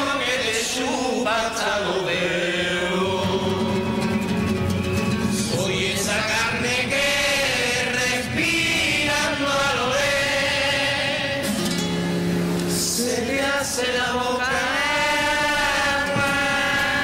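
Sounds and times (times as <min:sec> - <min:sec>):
group of voices singing: 0:00.0 - 0:17.0
music: 0:00.0 - 0:17.0.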